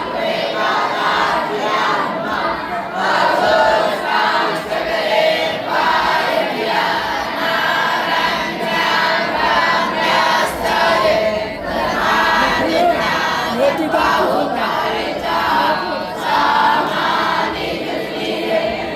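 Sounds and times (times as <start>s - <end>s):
group devotional chanting: 0.0s - 18.9s.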